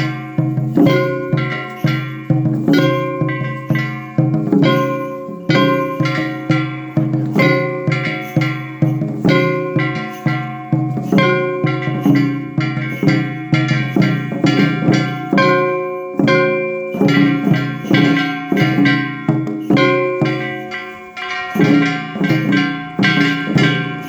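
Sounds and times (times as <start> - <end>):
hand gong ringing: 0.0 - 24.0
taiko drum: 0.0 - 24.0.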